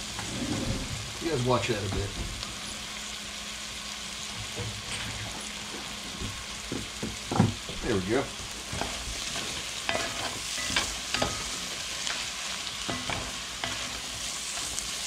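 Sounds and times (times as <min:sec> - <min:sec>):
vegetables sizzling in pot: 0:00.0 - 0:15.0.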